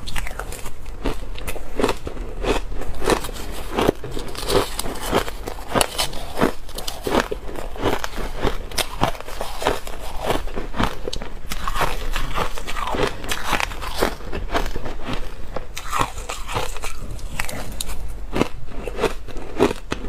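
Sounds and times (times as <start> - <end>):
crunching crushed ice: 0.1 - 20.0.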